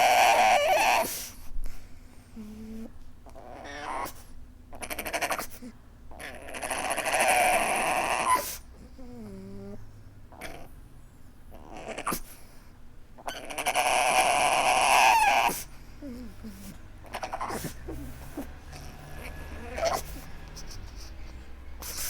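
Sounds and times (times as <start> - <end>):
dog whimper: 0.0 - 1.3, 2.4 - 10.8, 11.5 - 12.4, 13.2 - 22.0
dog whining and wailing: 0.0 - 1.3, 2.4 - 10.8, 11.5 - 12.3, 13.2 - 22.0.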